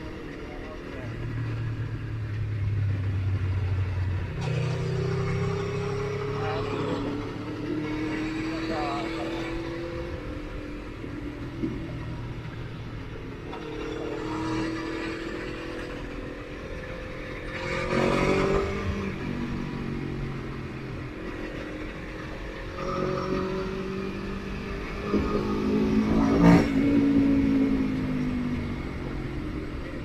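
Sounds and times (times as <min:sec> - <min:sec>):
motorcycle engine accelerating: 0:01.0 - 0:30.0.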